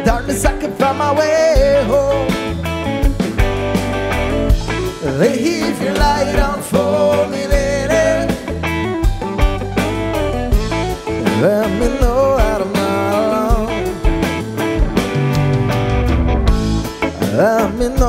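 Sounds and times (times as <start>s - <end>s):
rock band playing live: 0.0s - 18.0s.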